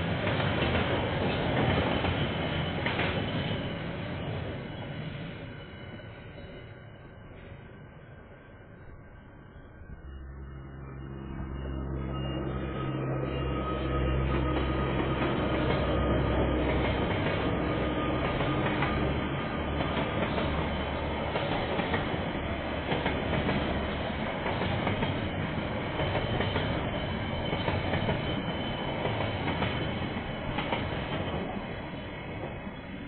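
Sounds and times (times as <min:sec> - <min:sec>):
freight train rumbling: 0:00.0 - 0:33.0
locomotive engine hum: 0:00.0 - 0:33.0.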